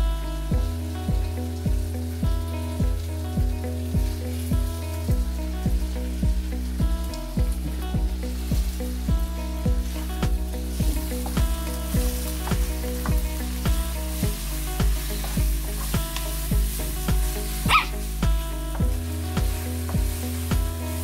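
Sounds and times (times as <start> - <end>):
background music with steady beat: 0.0 - 21.0
food sizzling in a frying pan: 0.0 - 21.0.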